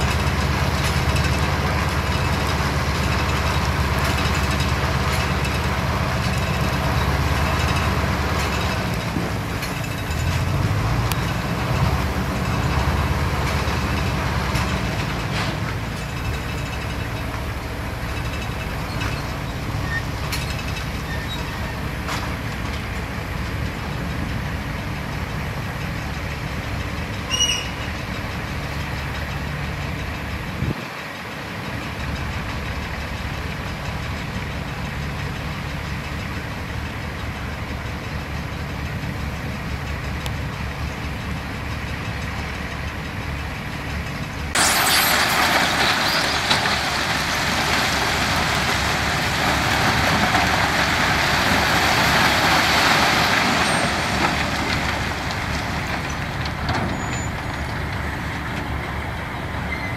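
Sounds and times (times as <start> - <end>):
construction machinery diesel engines: 0.0 - 59.9.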